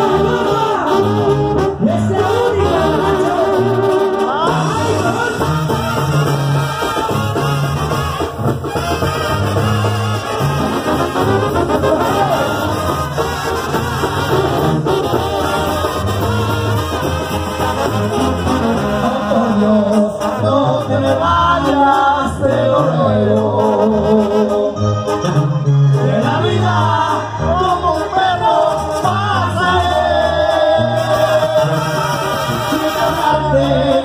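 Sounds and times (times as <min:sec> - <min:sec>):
brass band playing: 0:00.0 - 0:34.0
trumpets and trombones melody: 0:00.0 - 0:34.0.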